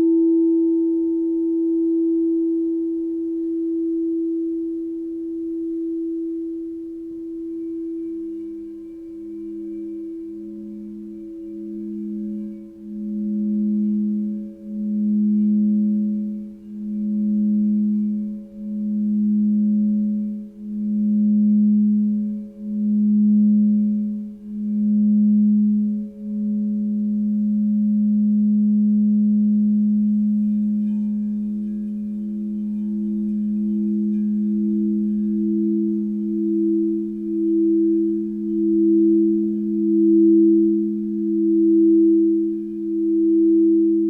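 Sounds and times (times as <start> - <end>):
crystal singing bowls ringing: 0.0 - 44.0.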